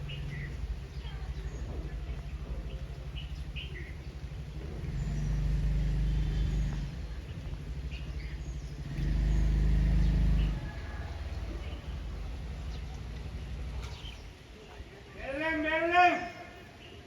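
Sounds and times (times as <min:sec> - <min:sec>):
vehicle engine rumbling: 0:00.0 - 0:14.7.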